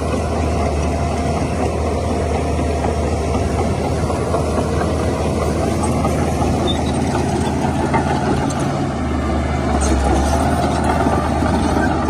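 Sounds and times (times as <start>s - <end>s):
heavy machinery diesel engine: 0.0s - 12.0s.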